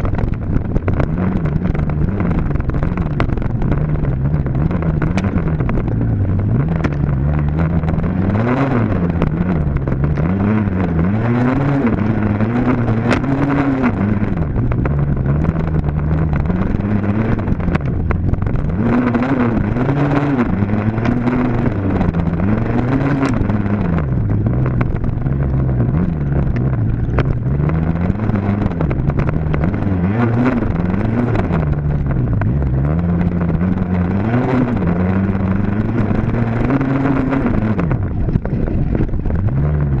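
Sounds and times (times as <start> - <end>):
dirt bike engine revving: 0.8 - 40.0.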